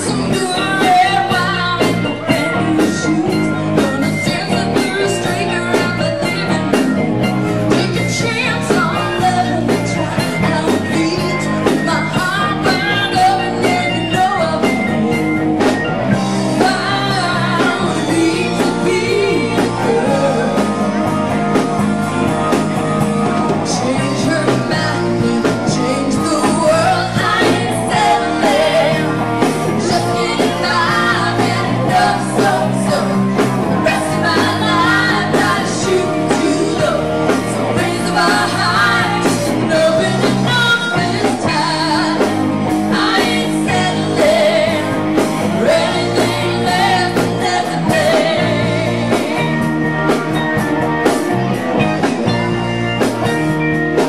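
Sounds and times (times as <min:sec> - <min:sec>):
person singing: 0:00.0 - 0:15.2, 0:16.4 - 0:21.7, 0:23.5 - 0:51.0
drum kit: 0:00.0 - 0:54.0
electric guitar: 0:00.0 - 0:54.0.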